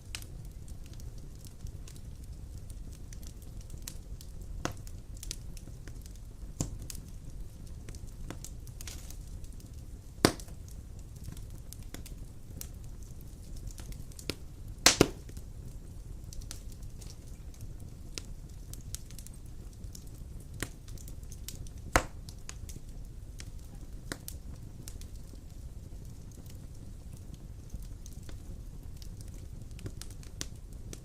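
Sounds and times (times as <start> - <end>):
logs crackling and popping: 0.0 - 31.0
rumble of flame: 0.0 - 31.0.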